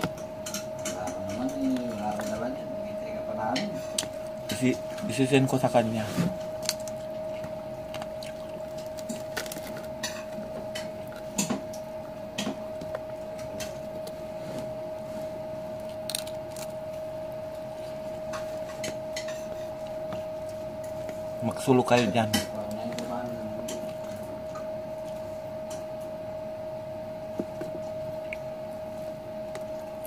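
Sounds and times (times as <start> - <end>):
steady high-pitched hum: 0.0 - 30.0.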